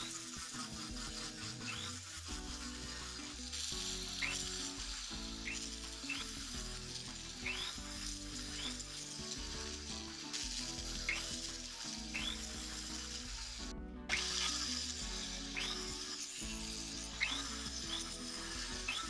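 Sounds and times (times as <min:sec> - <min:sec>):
rotary tool grinding metal: 0:00.0 - 0:19.0.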